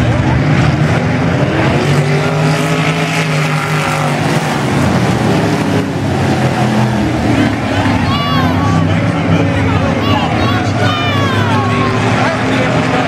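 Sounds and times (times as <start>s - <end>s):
race cars passing at full throttle: 0.0s - 13.0s.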